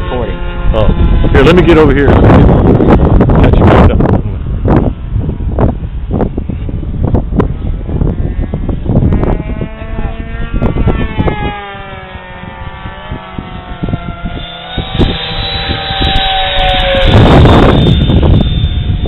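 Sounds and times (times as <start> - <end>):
model jet turbine whining: 0.0 - 19.0
wind gusts on microphone: 0.0 - 19.0.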